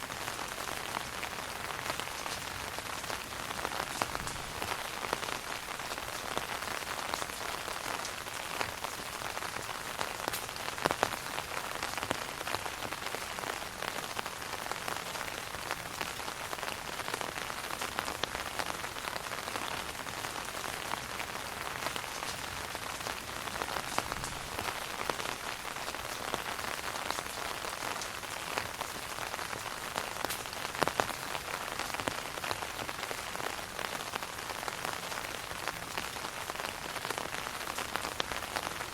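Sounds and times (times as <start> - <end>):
louder raindrops: 0.0 - 38.9
rain pattering on an umbrella: 0.0 - 38.9.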